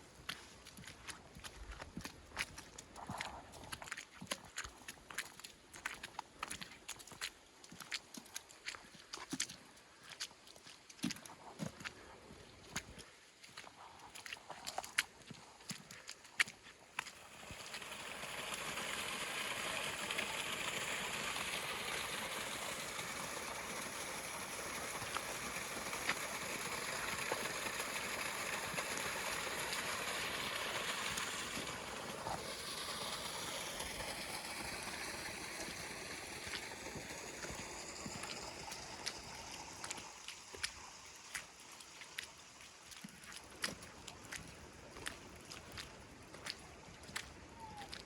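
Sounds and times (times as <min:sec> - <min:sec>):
running water rushing: 0:00.0 - 0:48.0.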